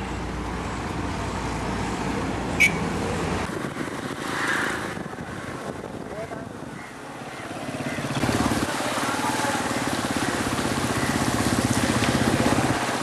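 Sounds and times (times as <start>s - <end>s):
street traffic noise: 0.0s - 13.0s
vehicle road and engine rumble: 0.0s - 13.0s.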